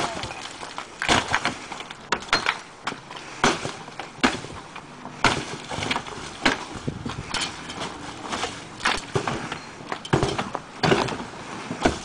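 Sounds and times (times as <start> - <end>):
falling rubble: 0.0 - 12.0.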